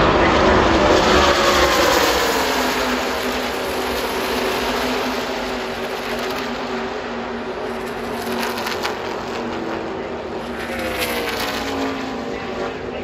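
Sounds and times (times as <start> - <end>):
race truck engines passing: 0.0 - 13.0.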